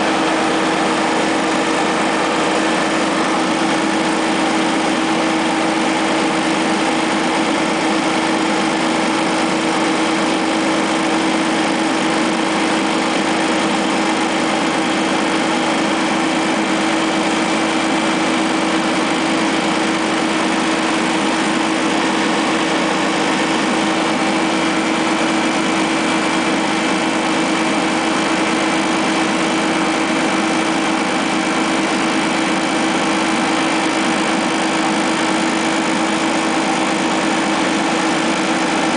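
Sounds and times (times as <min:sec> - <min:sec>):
generator engine humming: 0:00.0 - 0:38.9.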